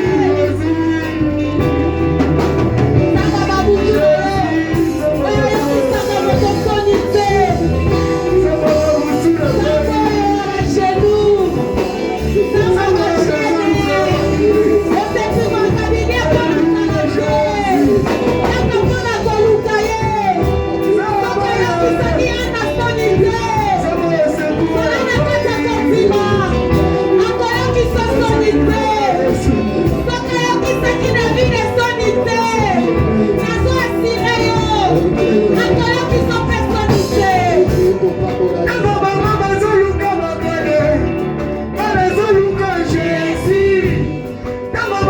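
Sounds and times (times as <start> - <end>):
instrumental backing with bass: 0.0 - 45.0
person singing worship song: 0.0 - 45.0.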